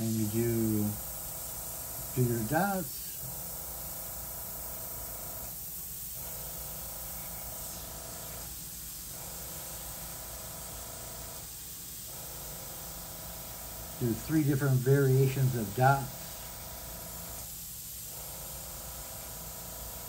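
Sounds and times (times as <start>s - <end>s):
airbrush hissing: 0.0s - 20.0s.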